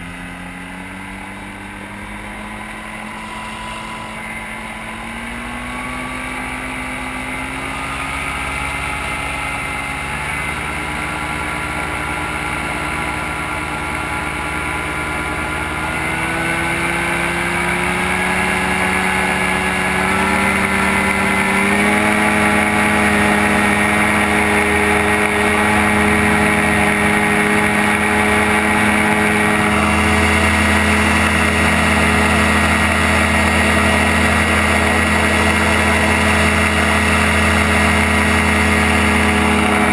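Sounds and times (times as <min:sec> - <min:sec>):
gyrocopter engine running: 0:00.0 - 0:39.9.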